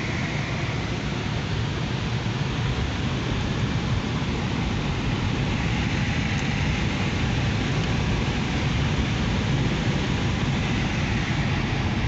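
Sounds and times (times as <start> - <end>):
rush of air in flight: 0.0 - 12.0.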